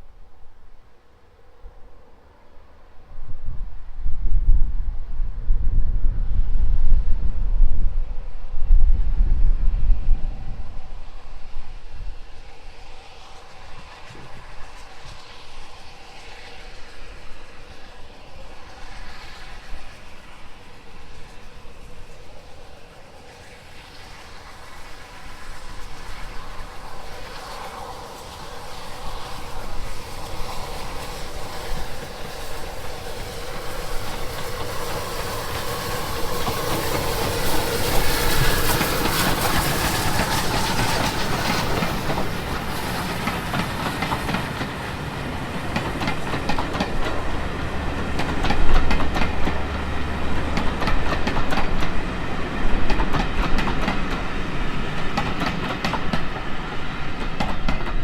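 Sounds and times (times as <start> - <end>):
train passing: 0.0 - 58.0
train wheels clickety-clack: 9.9 - 58.0.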